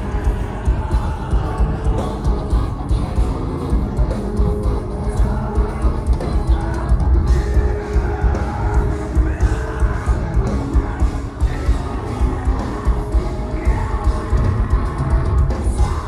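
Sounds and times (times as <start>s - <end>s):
live metal band: 0.0s - 16.0s.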